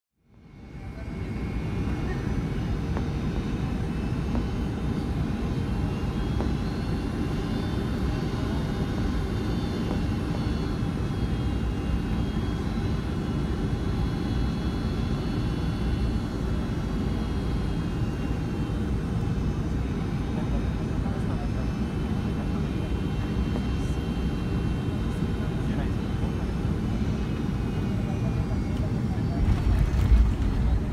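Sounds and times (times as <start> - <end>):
aircraft engine and airflow rush: 0.3 - 30.9.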